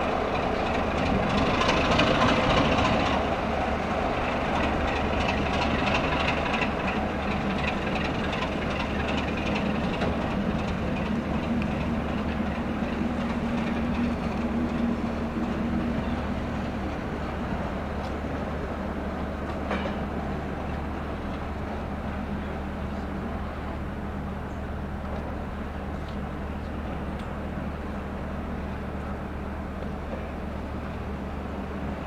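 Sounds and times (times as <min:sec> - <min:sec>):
diesel locomotive engine: 0:00.0 - 0:32.0.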